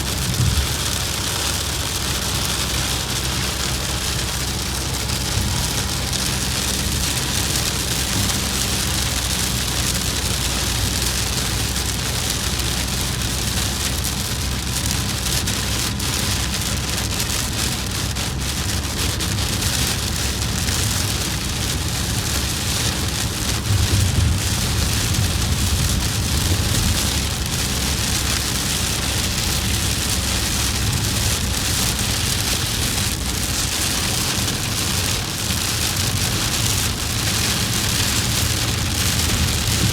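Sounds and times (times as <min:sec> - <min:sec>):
heavy rain on a vehicle: 0:00.0 - 0:39.9
road and engine rumble: 0:00.0 - 0:39.9.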